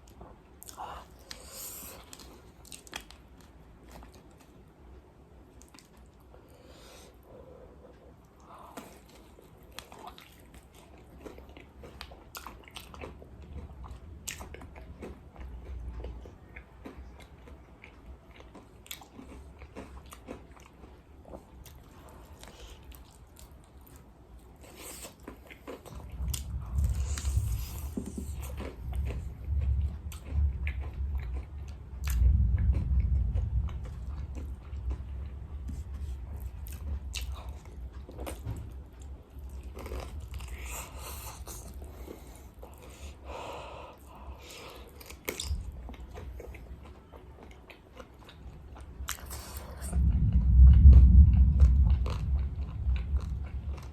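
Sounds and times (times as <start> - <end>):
chewing crispy fried chicken: 0.0 - 4.7, 5.5 - 53.9.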